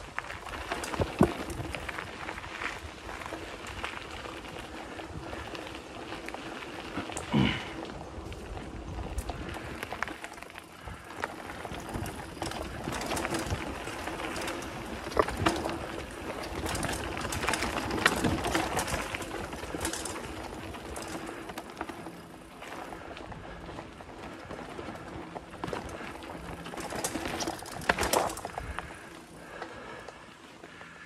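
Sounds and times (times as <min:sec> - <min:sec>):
bike frame and chain rattling: 0:00.0 - 0:31.0
bike tyres on dirt: 0:00.0 - 0:31.0.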